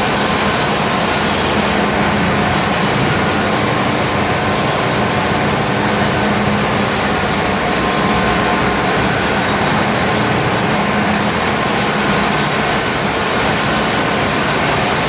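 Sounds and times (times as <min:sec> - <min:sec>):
engine room machinery din: 0:00.0 - 0:15.0.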